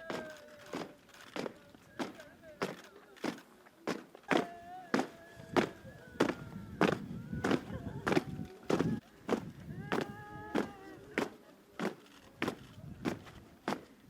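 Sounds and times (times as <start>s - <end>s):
faint raised voices: 0.0s - 14.0s.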